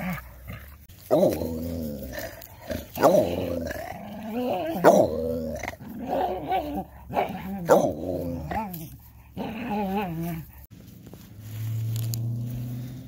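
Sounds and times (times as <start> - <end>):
dog moaning and grumbling: 0.0 - 10.7.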